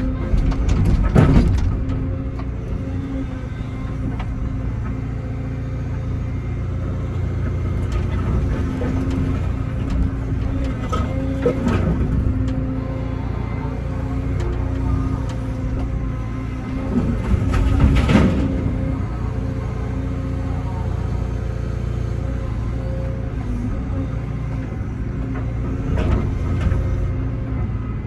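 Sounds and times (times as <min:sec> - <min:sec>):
excavator diesel engine: 0:00.0 - 0:28.0.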